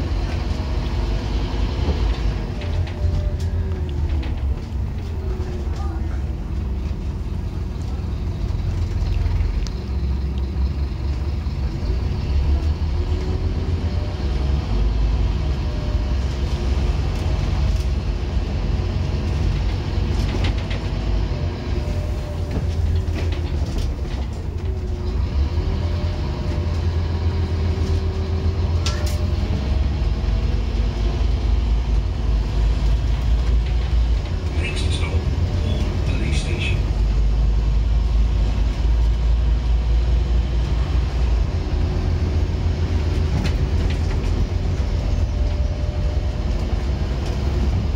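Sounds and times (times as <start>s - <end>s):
bus diesel engine rumble: 0.0s - 47.9s.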